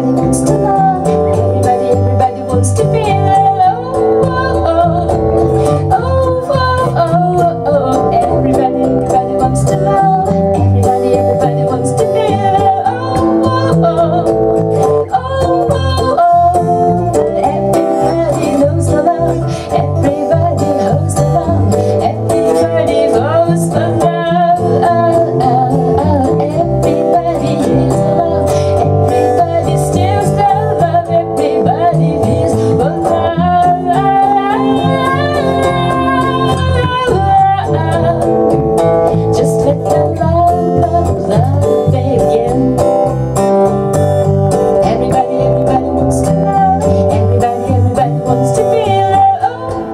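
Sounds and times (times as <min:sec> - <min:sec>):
woman singing: 0:00.0 - 0:43.8, 0:44.5 - 0:49.9
electric bass: 0:00.0 - 0:49.9
strummed acoustic guitar: 0:00.0 - 0:49.9.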